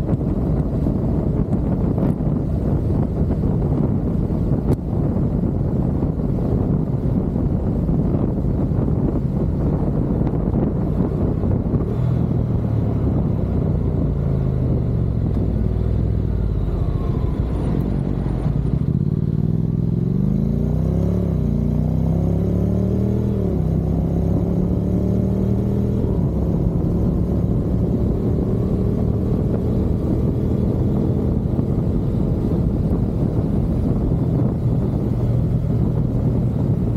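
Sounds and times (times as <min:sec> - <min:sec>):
motorcycle engine running: 0:00.0 - 0:36.9
wind buffeting microphone: 0:00.0 - 0:36.9.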